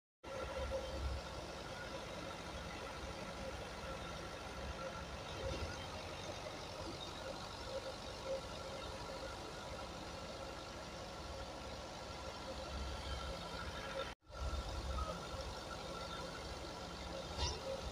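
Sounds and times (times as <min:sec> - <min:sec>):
tractor diesel engine under load: 0:00.3 - 0:17.9.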